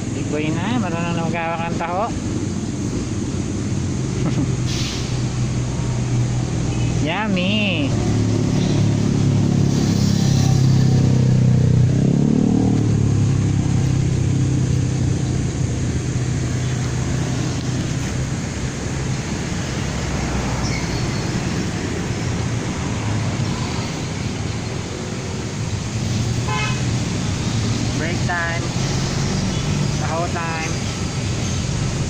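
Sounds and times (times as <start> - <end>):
traffic noise: 0.0 - 32.0
vehicle engine running close by: 0.0 - 32.0.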